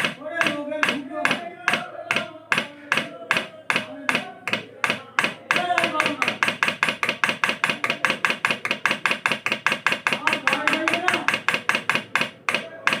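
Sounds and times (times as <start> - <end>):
dosing pump clicking rapidly: 0.0 - 13.0.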